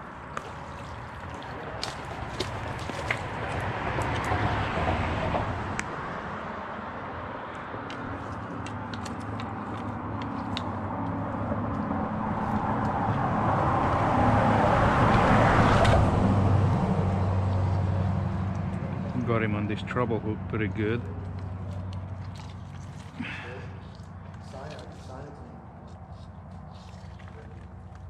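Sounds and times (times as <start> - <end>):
low engine hum: 0.0 - 28.0
motor vehicle passing: 0.0 - 28.0.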